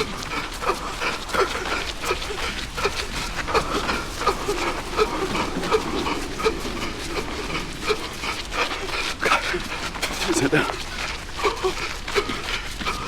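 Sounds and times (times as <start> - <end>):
runner wheezing breath: 0.0 - 13.0
running footfalls: 0.0 - 13.0.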